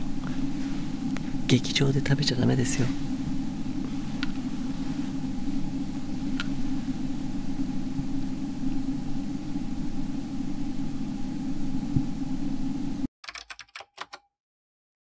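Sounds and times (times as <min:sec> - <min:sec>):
faint hum: 0:00.0 - 0:13.1
low rumbling background noise: 0:00.0 - 0:13.1.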